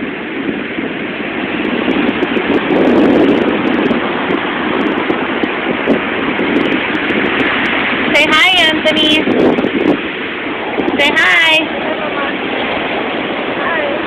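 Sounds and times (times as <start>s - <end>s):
ocean surf rushing: 0.0s - 14.0s
wind on the microphone: 0.0s - 14.0s.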